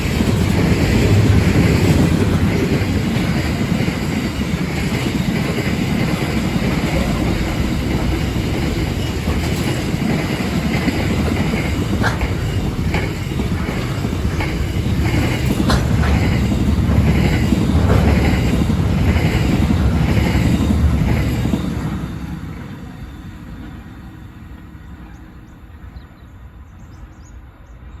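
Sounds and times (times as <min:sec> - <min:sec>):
clickety-clack of rail joints: 0:00.0 - 0:26.2
train wheels rumbling on rails: 0:00.0 - 0:28.0.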